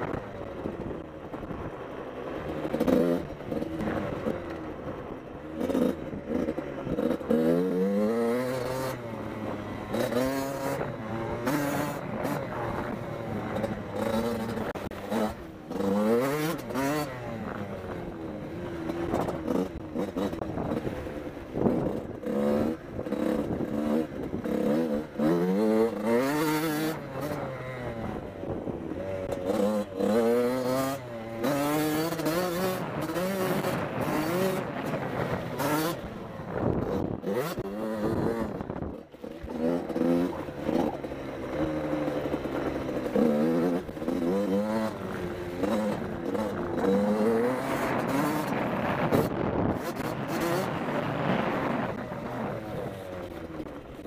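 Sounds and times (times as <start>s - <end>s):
two-stroke motorbike engine revving: 0.0s - 54.0s.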